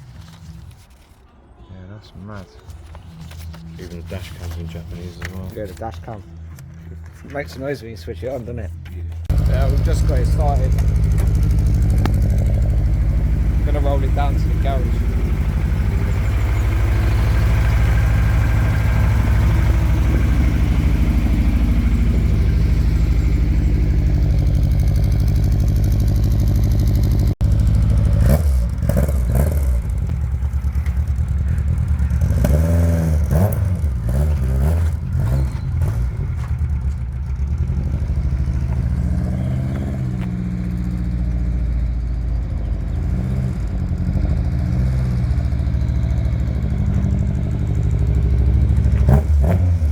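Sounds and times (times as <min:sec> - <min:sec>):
car engine revving: 0:09.3 - 0:49.9.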